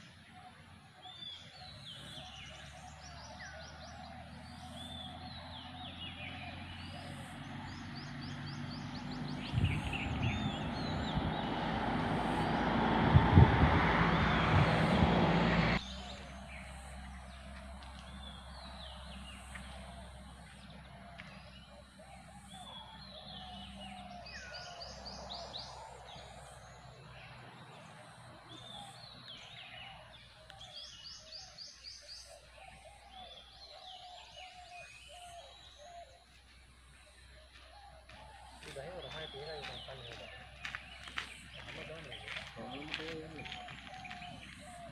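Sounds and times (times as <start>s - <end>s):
birds calling and singing: 0.0s - 44.9s.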